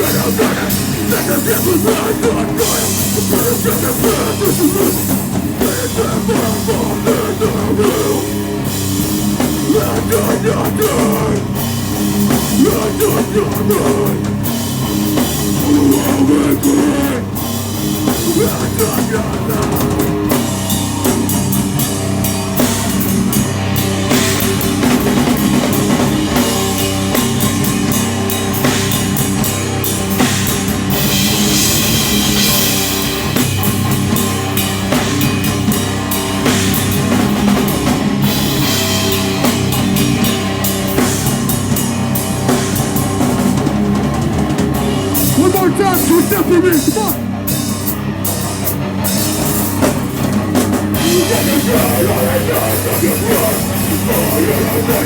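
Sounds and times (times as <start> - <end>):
heavy rock band playing: 0.0 - 55.0.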